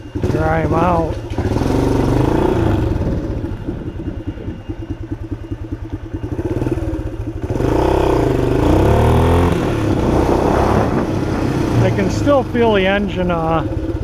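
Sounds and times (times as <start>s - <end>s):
engine misfiring: 0.0s - 14.0s
motorcycle engine revving: 0.0s - 14.0s.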